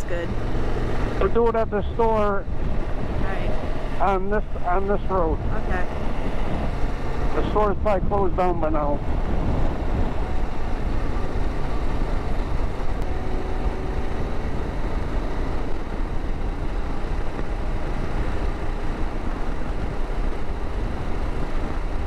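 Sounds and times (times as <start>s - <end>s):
motorcycle engine drone: 0.0s - 22.0s
road rumble: 0.0s - 22.0s
wind: 0.0s - 22.0s.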